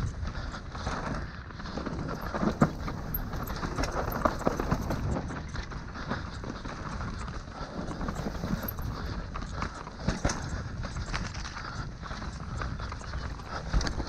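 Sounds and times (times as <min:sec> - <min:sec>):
bike rattling and knocking: 0:00.3 - 0:14.0.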